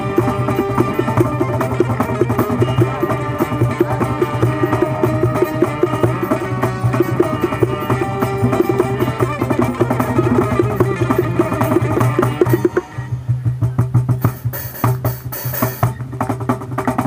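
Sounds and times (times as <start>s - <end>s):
long-necked lute plucking: 0.0s - 13.8s
guitar plucking: 0.0s - 14.4s
bongos played by hand: 0.0s - 17.0s.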